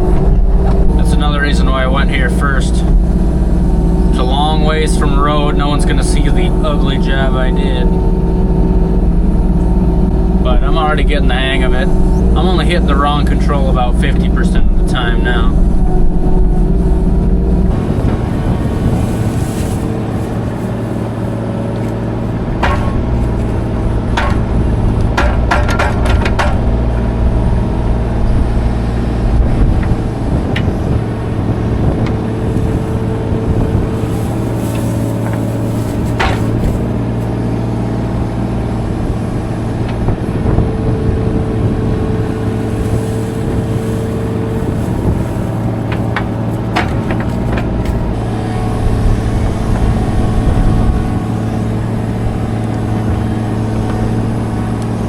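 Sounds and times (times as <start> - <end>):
excavator engine running: 0.0 - 55.0
hydraulic whine: 0.0 - 55.0.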